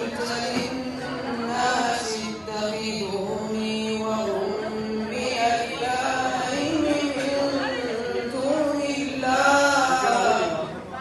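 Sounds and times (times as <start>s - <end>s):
man chanting into microphone: 0.0s - 11.0s.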